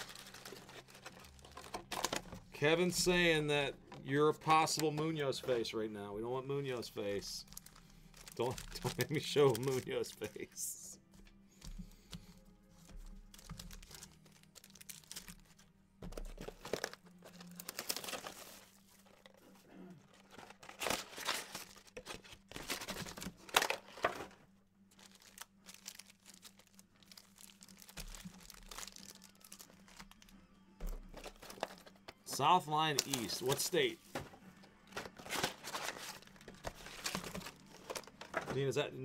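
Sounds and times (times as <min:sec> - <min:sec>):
card pack wrappers crinkling: 0:00.0 - 0:03.1, 0:06.6 - 0:10.6, 0:12.8 - 0:19.5, 0:20.1 - 0:30.4, 0:31.0 - 0:34.3, 0:34.9 - 0:38.8.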